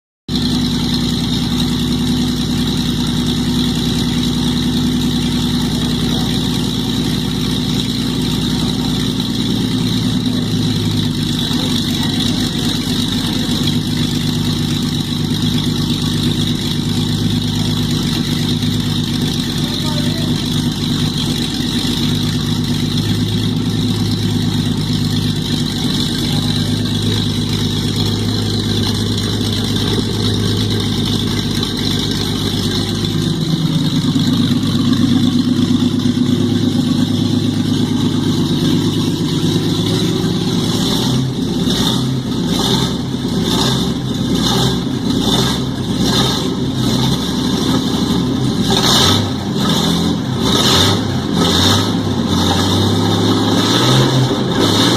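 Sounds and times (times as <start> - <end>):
engine running: 0.3 - 54.9.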